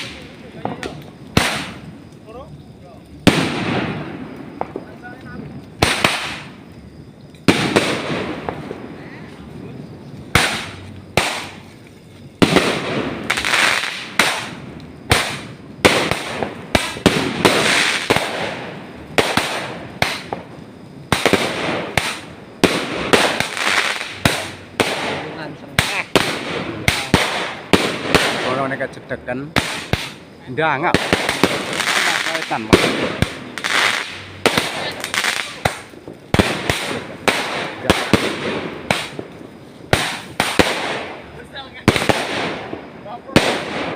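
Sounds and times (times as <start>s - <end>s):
fireworks bangs with crackle: 0.0s - 43.9s.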